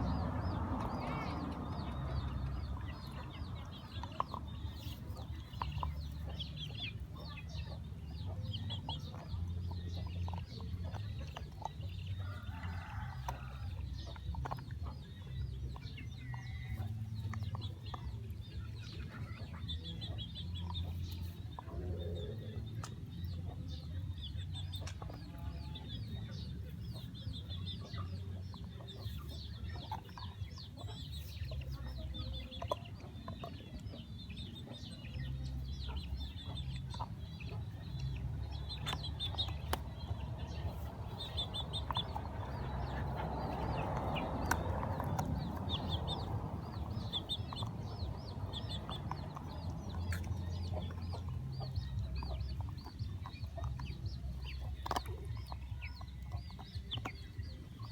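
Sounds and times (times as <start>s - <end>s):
birds clucking and chirping: 0.0s - 57.9s
steady low rumble: 0.0s - 57.9s.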